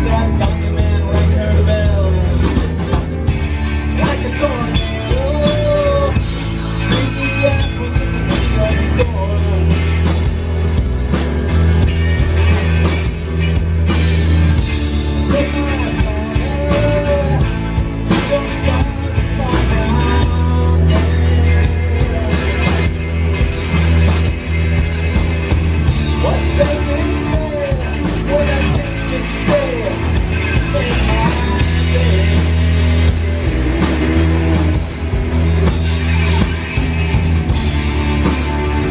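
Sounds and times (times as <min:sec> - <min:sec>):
live rock band playing: 0:00.0 - 0:38.9
steady drum beat: 0:00.0 - 0:38.9.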